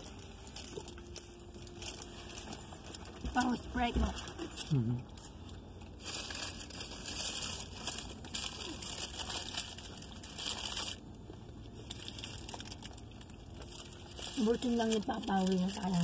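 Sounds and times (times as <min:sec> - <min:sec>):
paper packaging crinkling: 0:00.0 - 0:04.5, 0:05.8 - 0:16.0
low steady hum: 0:00.0 - 0:16.0.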